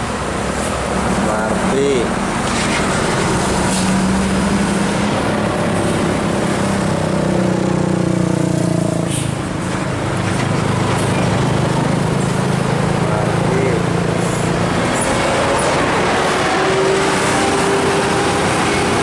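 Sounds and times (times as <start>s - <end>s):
bus and truck engines passing: 0.0s - 19.0s
road noise: 0.0s - 19.0s.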